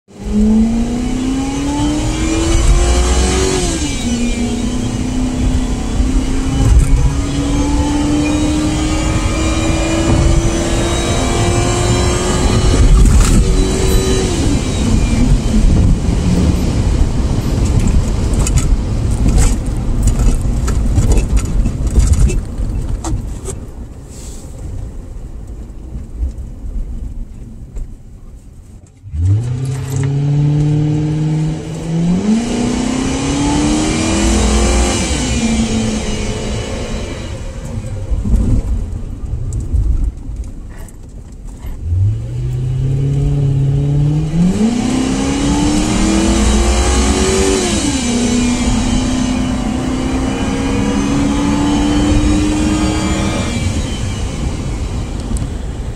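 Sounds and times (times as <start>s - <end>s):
car engine accelerating: 0.1s - 24.0s, 29.0s - 55.9s.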